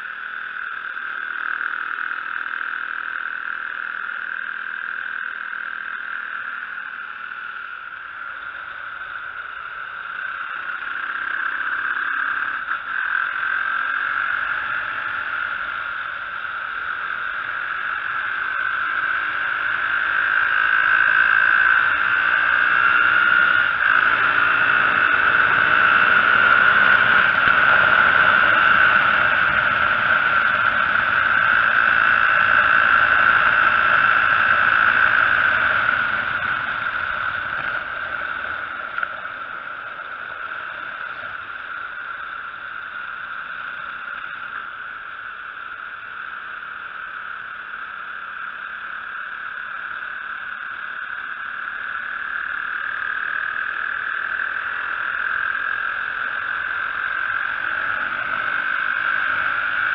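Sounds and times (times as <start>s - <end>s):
motorcycle engine revving: 0.0s - 59.9s
steady high buzz: 0.0s - 59.9s.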